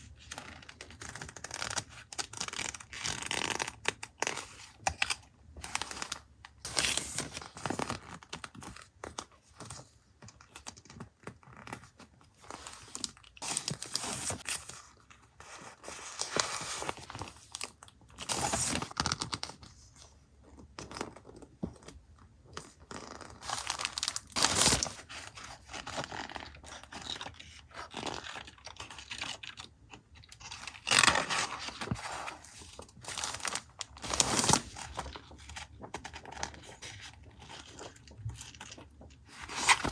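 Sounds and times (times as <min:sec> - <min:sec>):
paper crinkling and rustling: 0:00.1 - 0:39.9.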